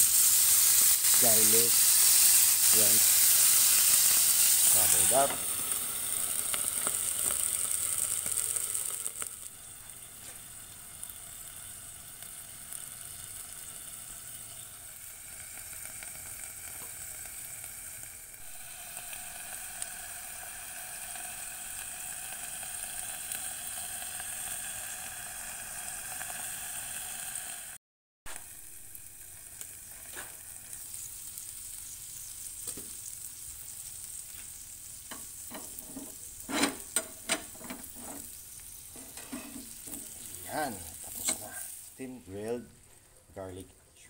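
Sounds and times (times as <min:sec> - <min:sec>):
shrimp sizzling in a pan: 0:00.0 - 0:43.1.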